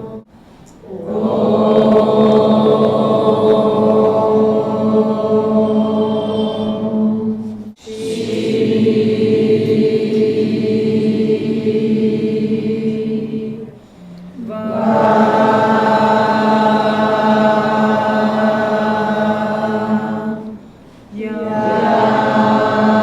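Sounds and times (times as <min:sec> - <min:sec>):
voices chanting in long tones: 0:00.0 - 0:23.0.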